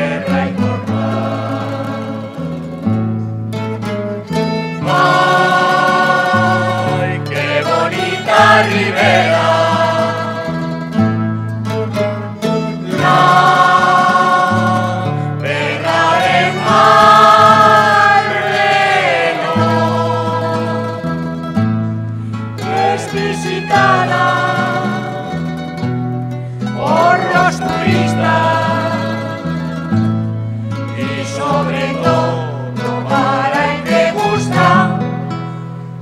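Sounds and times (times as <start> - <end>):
choir singing held chords: 0.0 - 3.0, 4.7 - 11.0, 12.7 - 21.6, 22.5 - 25.6, 26.7 - 35.3
plucked guitar bass line: 0.0 - 36.0
string ensemble playing: 3.5 - 35.3.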